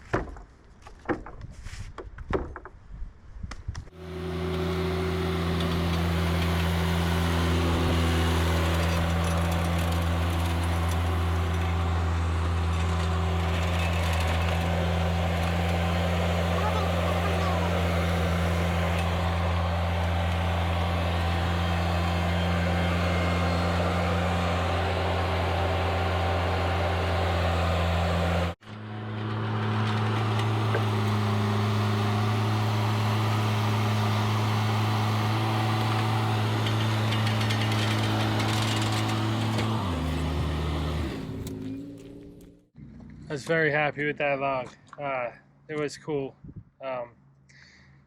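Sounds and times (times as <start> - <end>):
engine running: 3.9 - 45.0.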